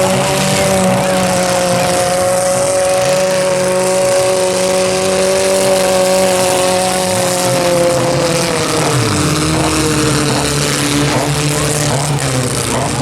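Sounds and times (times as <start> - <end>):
car engines revving high: 0.0 - 13.0.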